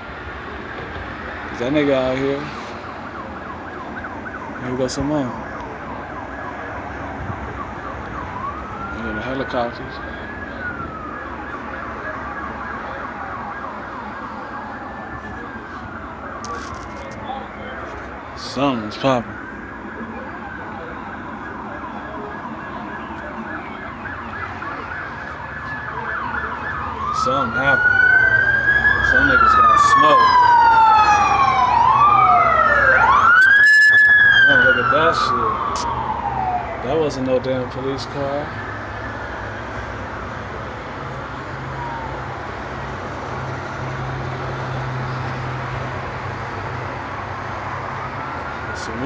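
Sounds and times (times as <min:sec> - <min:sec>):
passing traffic: 0:00.0 - 0:49.0
police sirens wailing and yelping: 0:00.0 - 0:49.0.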